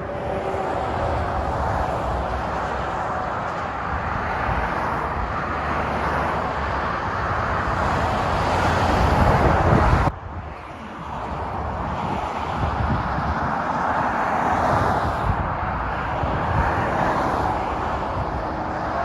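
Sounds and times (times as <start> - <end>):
lorries passing at speed: 0.0 - 19.0
traffic roar: 0.0 - 19.0.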